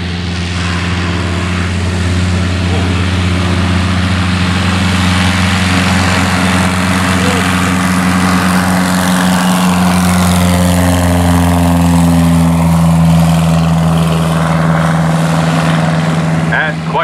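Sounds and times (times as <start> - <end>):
biplane engine and propeller droning: 0.0 - 17.0.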